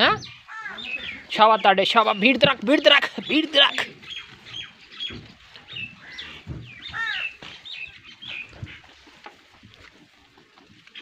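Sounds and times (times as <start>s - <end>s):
goats chewing and rustling: 0.0s - 11.0s
small birds chirping: 0.0s - 11.0s.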